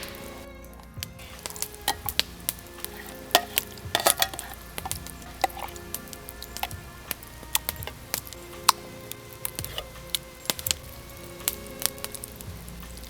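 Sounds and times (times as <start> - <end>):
food sizzling in a pan: 0.0 - 13.0
utensil clicking against pan: 1.2 - 13.0.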